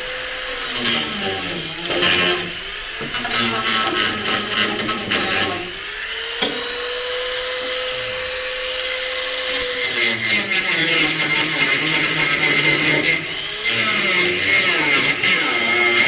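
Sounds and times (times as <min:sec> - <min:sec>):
grinder motor whine: 0:00.0 - 0:16.0
power tool grinding steel: 0:00.0 - 0:16.0.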